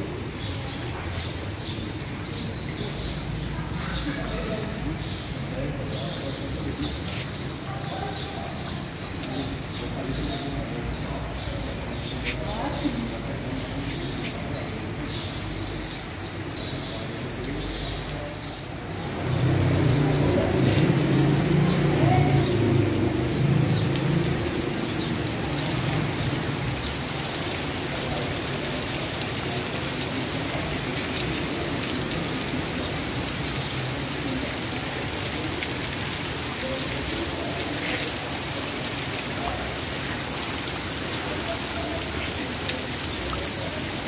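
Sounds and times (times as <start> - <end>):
heavy rain on street and awning: 0.0 - 44.0.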